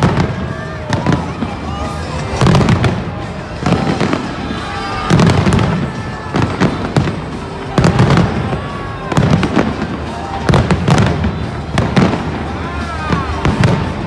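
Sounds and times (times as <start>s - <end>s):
fireworks bursting with loud bangs: 0.0s - 14.0s.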